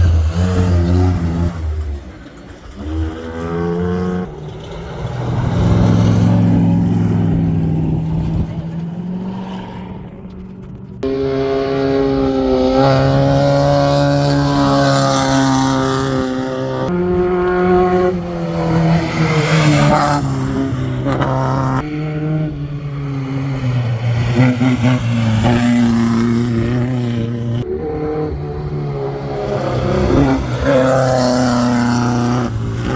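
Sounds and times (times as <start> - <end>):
race vehicle engines running: 0.0 - 32.9.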